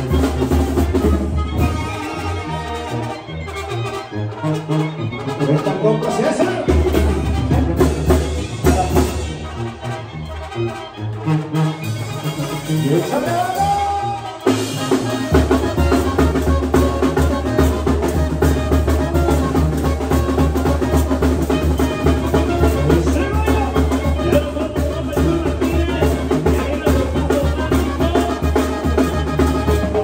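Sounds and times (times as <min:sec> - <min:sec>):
brass band playing with drums: 0:00.0 - 0:30.0
low brass bass line: 0:00.0 - 0:30.0.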